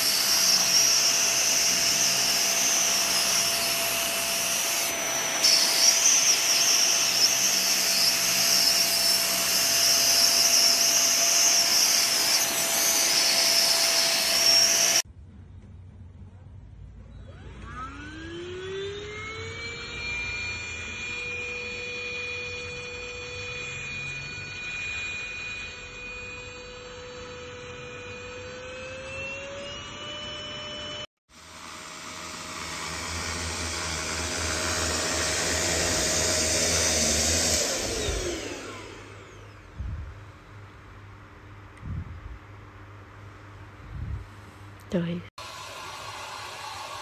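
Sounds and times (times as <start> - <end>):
vacuum cleaner motor whine: 0.0 - 15.0, 17.2 - 40.2, 45.4 - 47.0.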